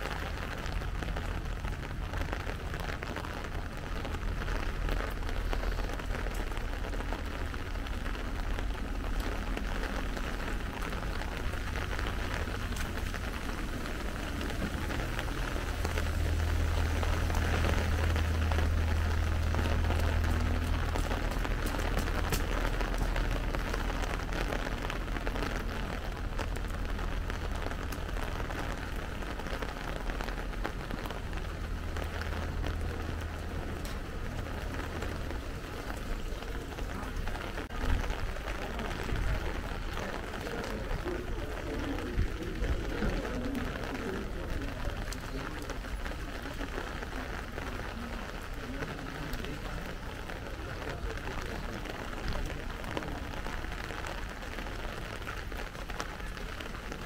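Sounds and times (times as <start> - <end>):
light rain on a street: 0.0 - 57.0
low rumble: 0.1 - 46.2.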